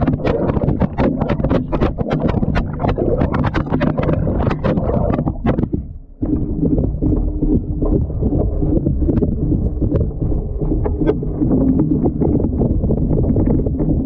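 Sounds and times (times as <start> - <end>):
washing machine rumble: 0.0 - 14.0.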